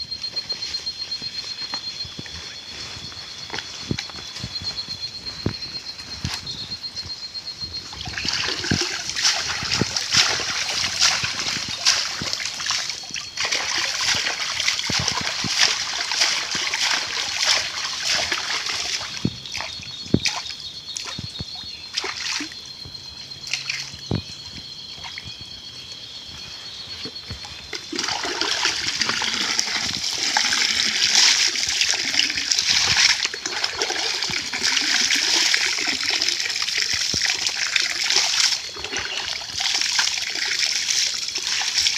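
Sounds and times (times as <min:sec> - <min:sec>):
water splashing and dribbling: 0:00.4 - 0:22.7, 0:23.4 - 0:24.4, 0:27.0 - 0:41.9.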